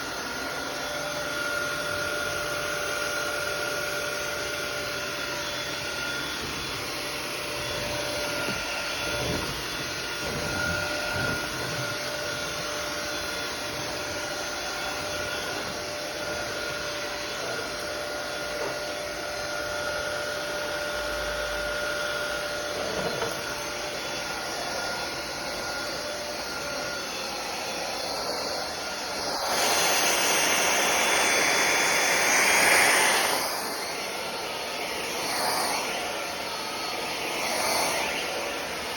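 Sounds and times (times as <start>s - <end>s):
stick vacuum running: 0.0s - 38.9s.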